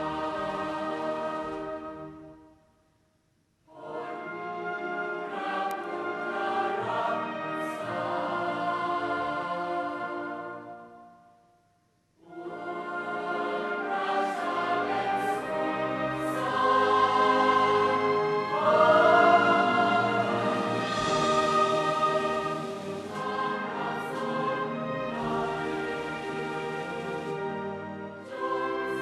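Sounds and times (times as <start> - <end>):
choir singing with orchestra: 0.0 - 2.4, 3.7 - 11.2, 12.2 - 29.0.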